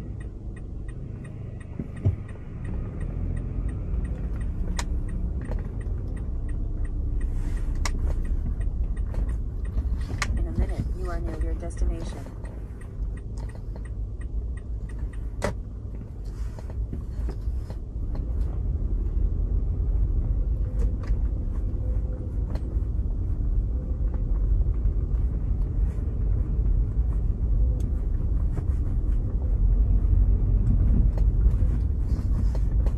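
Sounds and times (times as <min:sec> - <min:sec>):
car road and engine rumble: 0:00.0 - 0:32.9.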